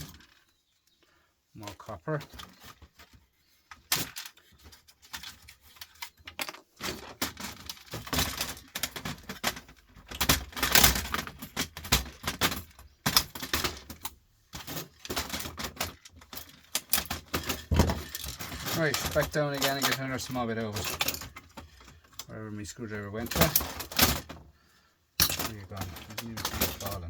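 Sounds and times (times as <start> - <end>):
small metal and plastic parts clattering: 0.0 - 0.6, 1.6 - 24.6, 25.2 - 27.0.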